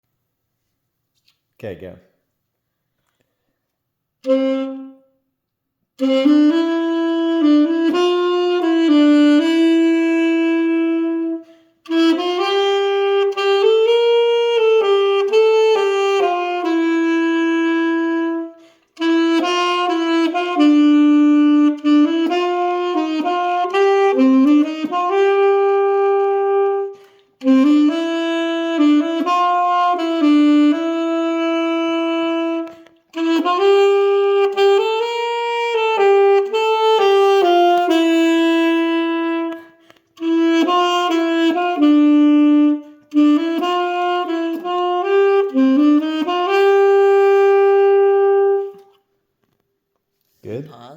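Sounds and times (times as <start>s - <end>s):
solo saxophone slow melody: 4.2s - 49.1s.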